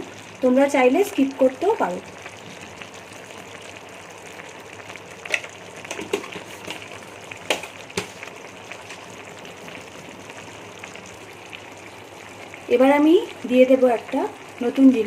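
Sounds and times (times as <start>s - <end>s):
gravy sizzling in a pan: 0.0s - 15.0s.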